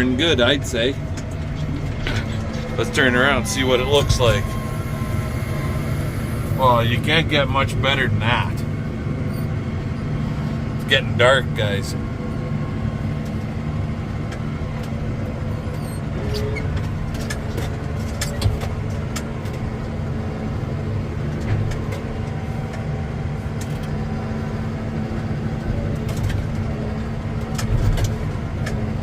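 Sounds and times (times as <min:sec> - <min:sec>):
farm vehicle engine running: 0:00.0 - 0:29.0.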